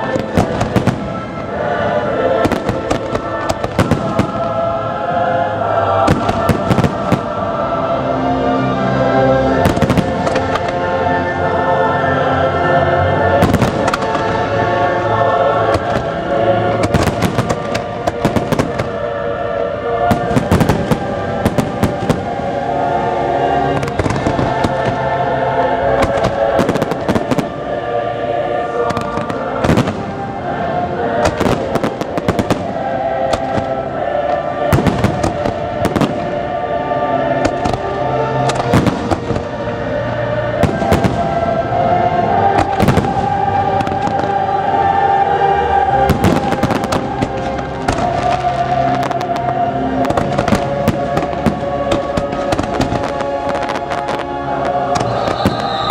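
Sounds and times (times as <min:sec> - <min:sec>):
fireworks bursting: 0:00.0 - 0:04.8, 0:05.6 - 0:07.5, 0:09.5 - 0:10.9, 0:13.3 - 0:19.4, 0:20.0 - 0:27.9, 0:28.7 - 0:36.7, 0:37.4 - 0:45.0, 0:45.9 - 0:55.9
loud show music: 0:00.0 - 0:55.9.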